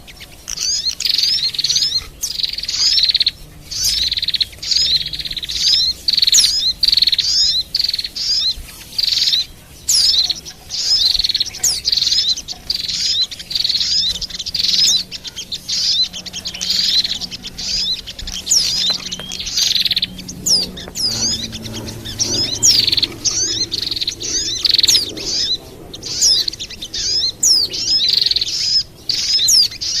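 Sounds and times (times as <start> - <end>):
songbirds chirping and twittering: 0.0 - 30.0.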